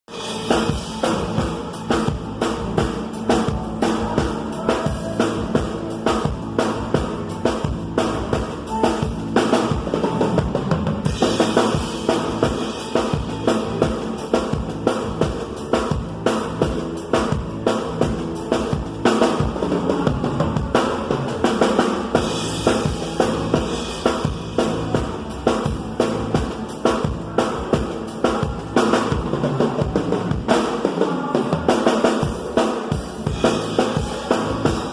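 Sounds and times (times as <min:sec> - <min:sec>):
bass drum and snare beat: 0:00.1 - 0:30.8, 0:31.6 - 0:34.9
live band music: 0:00.1 - 0:34.9.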